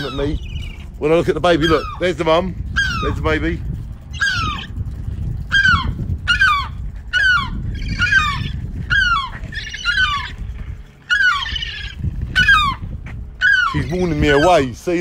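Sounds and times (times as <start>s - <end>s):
seagull alarm calls: 0.0s - 2.2s, 2.8s - 3.3s, 4.1s - 4.8s, 5.4s - 14.6s.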